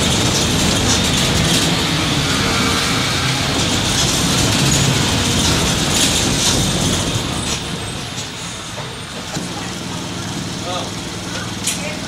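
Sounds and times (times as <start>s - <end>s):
bus body clicking and rattling: 0.0s - 2.2s, 3.2s - 12.0s
diesel bus engine running: 0.0s - 12.0s.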